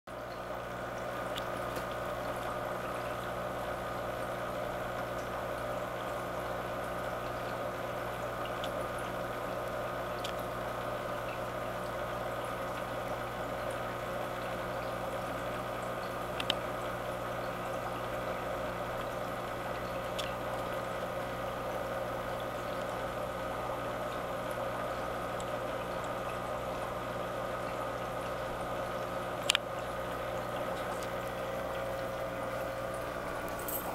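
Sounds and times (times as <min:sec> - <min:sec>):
aquarium pump humming: 0:00.1 - 0:33.9
water circulating: 0:00.1 - 0:33.9.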